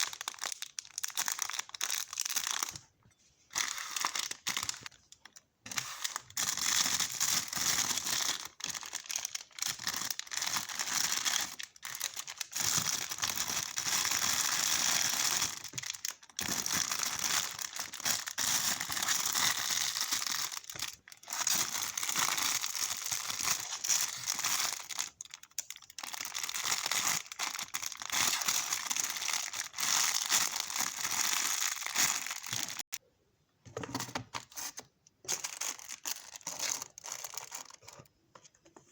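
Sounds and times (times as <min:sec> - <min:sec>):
packaging crinkling and rustling: 0:00.0 - 0:02.9, 0:03.5 - 0:33.0, 0:33.8 - 0:38.2.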